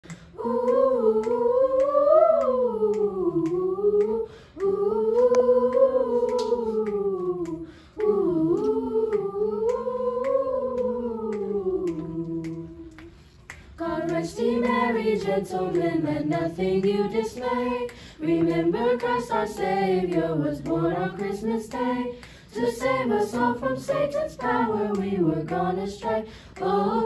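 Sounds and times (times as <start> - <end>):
choir singing a cappella: 0.0 - 27.0.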